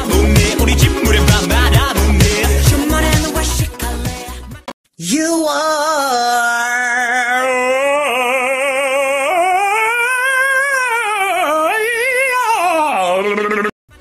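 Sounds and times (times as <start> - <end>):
person singing with vibrato: 0.0 - 13.7.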